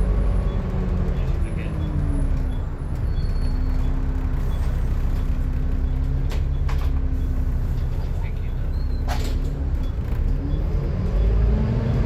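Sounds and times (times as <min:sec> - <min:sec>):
bus diesel engine with whine: 0:00.0 - 0:12.0.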